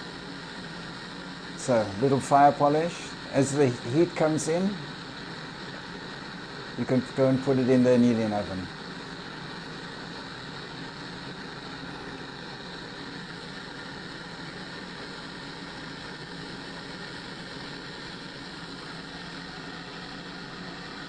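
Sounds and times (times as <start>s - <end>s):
gas burner flame rushing: 0.0s - 21.0s.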